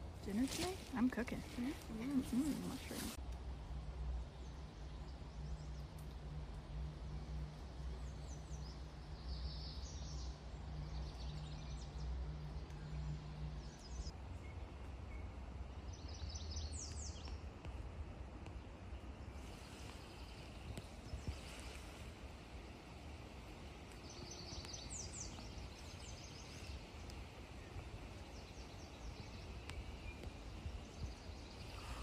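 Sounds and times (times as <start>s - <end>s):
steady low rumble: 0.0s - 32.0s
small songbirds chirping: 3.8s - 32.0s.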